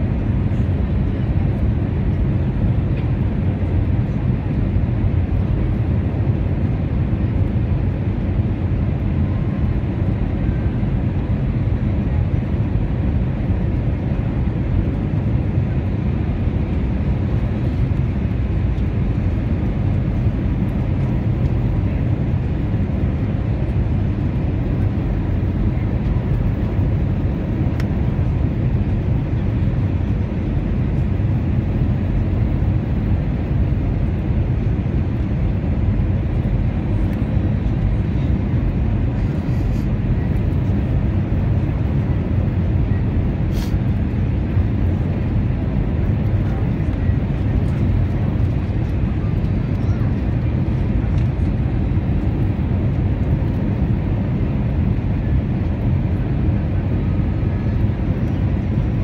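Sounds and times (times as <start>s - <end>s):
airliner cabin engine and airflow rush: 0.0s - 59.0s.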